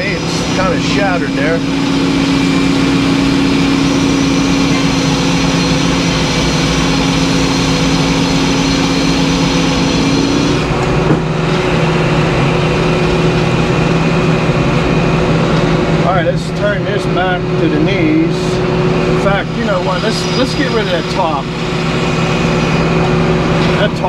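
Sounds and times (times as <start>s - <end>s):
circular sawmill cutting log: 0.0s - 24.0s
machine hum: 0.0s - 24.0s.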